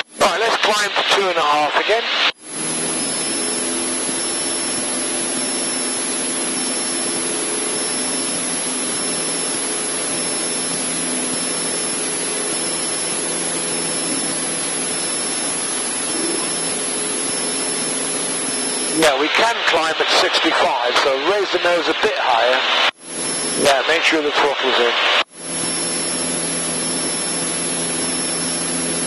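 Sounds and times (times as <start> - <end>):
airplane engine drone: 0.0 - 29.0.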